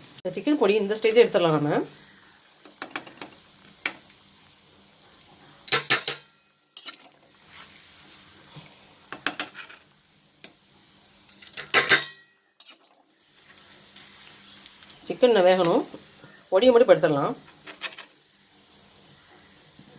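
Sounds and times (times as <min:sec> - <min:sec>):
frying sizzle: 0:00.0 - 0:19.9.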